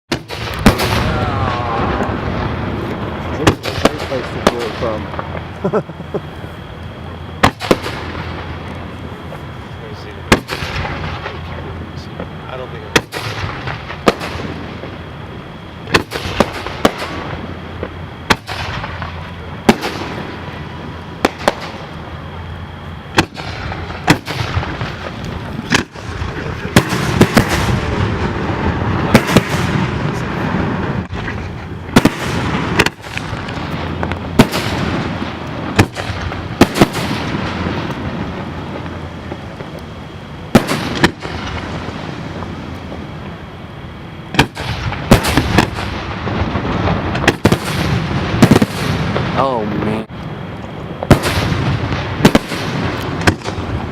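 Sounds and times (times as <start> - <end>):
firework crackling: 0.1 - 53.9.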